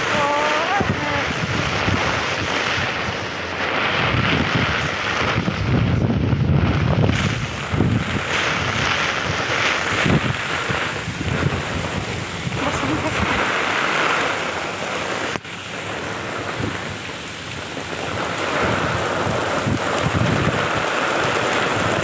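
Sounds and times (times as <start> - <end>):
heavy rain: 0.0 - 22.0
strong wind buffeting microphone: 0.0 - 22.0.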